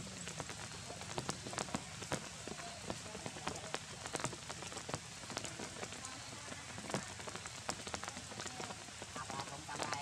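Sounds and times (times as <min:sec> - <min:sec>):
rain pattering on wet ground: 0:00.0 - 0:10.0
sharp drips: 0:00.0 - 0:10.0.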